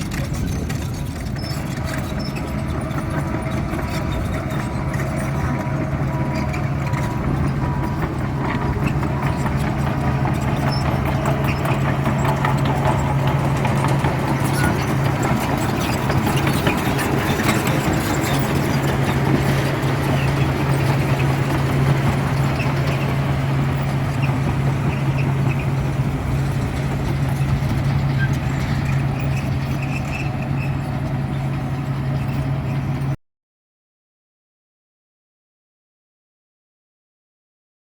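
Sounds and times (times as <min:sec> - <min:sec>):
heavy diesel engine running: 0:00.0 - 0:33.2.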